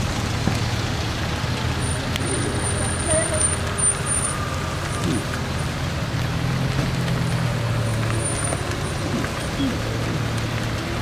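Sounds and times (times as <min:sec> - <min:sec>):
car engines passing slowly: 0:00.0 - 0:11.0.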